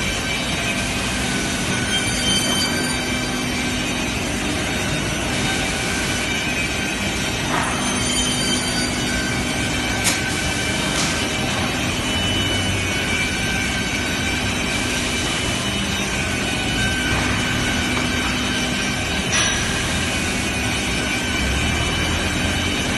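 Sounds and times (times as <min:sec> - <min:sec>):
panel saw hum and whine: 0:00.0 - 0:22.9.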